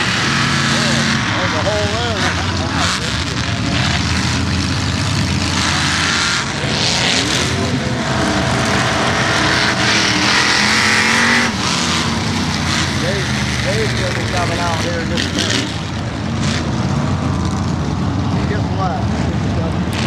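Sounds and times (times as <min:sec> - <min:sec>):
truck engines revving: 0:00.0 - 0:20.0.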